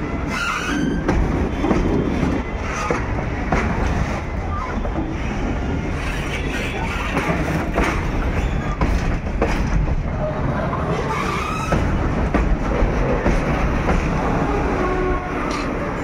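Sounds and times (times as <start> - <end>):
train wheels clattering over rails: 0.2 - 16.0.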